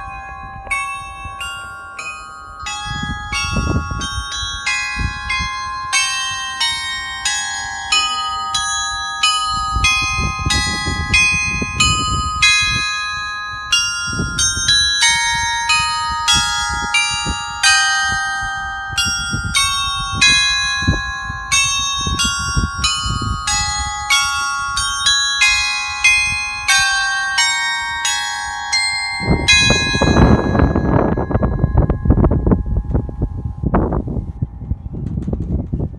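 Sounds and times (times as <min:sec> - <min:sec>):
tuned bells chiming a melody: 0:00.0 - 0:35.9.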